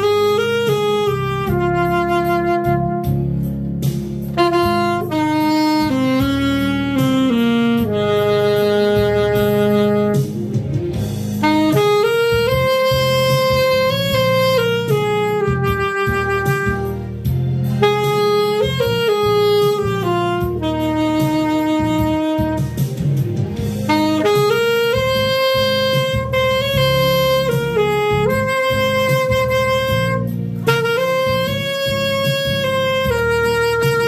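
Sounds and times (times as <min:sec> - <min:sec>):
alto saxophone slow melody: 0:00.0 - 0:34.0
musical accompaniment: 0:00.0 - 0:34.0.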